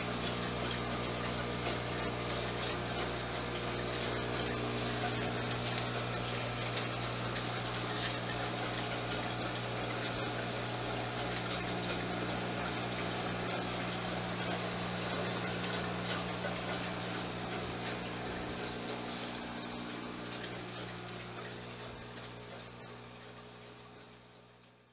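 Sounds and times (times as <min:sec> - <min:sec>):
aquarium pump bubbling water: 0:00.0 - 0:24.9
low motor hum: 0:00.0 - 0:24.9.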